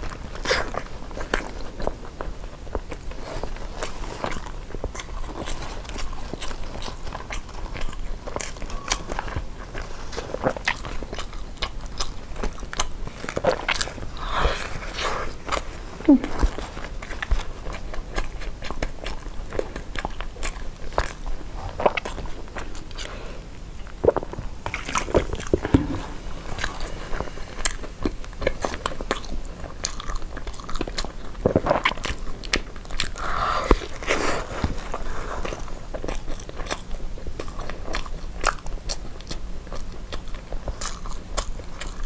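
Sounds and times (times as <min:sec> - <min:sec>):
chewing with wet mouth clicks: 0:00.0 - 0:42.0.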